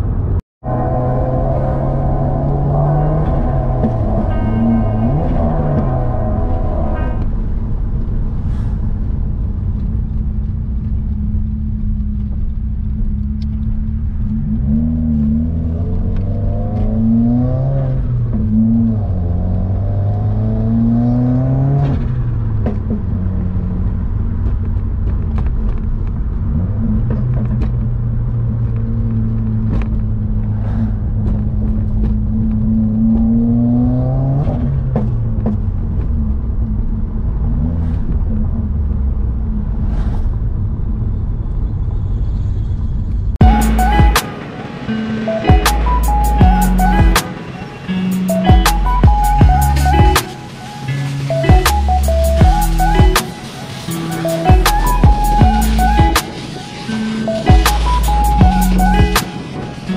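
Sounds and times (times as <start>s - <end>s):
car engine accelerating: 0.0s - 59.9s
road rumble: 0.0s - 59.9s.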